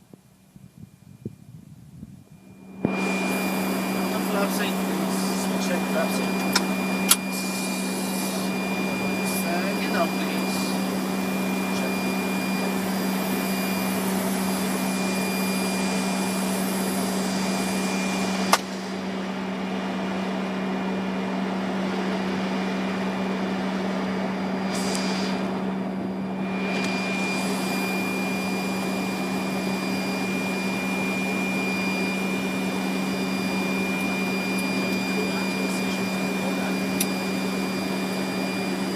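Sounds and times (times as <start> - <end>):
high whine: 0.0 - 38.9
aircraft cockpit air rush: 2.3 - 38.9.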